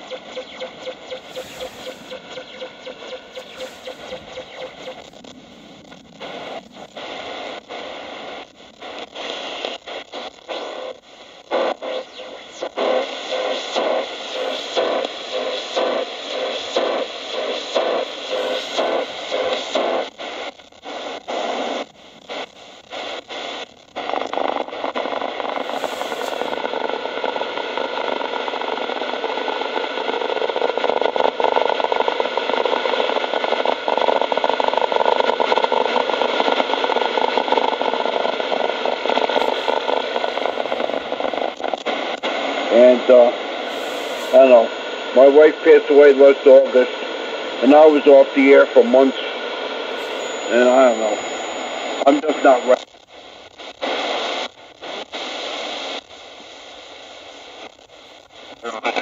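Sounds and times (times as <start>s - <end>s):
radio static hissing: 0.0s - 59.0s.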